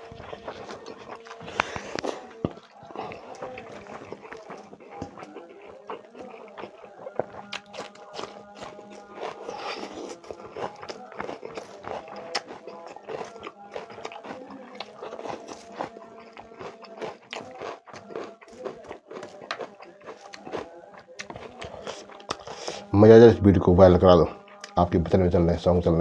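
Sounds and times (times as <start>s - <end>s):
chewing and wet smacking: 0.0s - 22.9s, 24.3s - 24.8s
background music: 0.0s - 26.0s.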